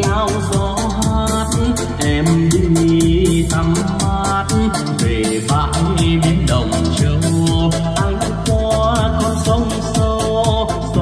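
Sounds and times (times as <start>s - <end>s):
song through karaoke loudspeakers: 0.0s - 11.0s.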